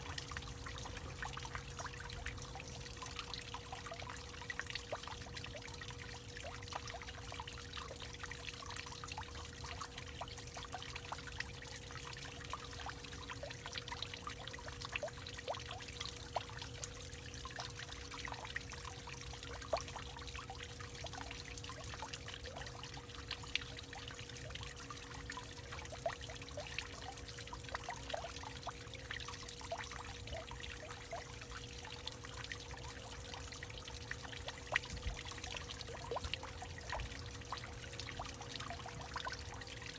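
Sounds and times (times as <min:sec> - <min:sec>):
faint steady hum: 0:00.0 - 0:39.9
water drips and splashes: 0:00.0 - 0:39.9
water trickling and pouring: 0:00.0 - 0:39.9.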